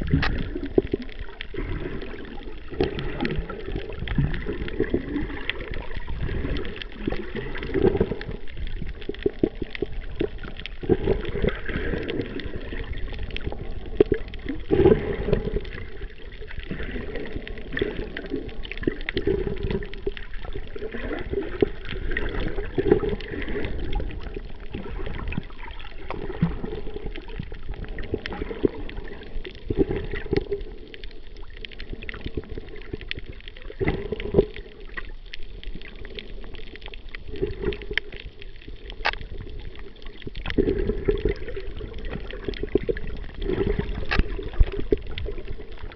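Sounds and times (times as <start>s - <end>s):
muffled underwater sloshing: 0.0s - 45.9s.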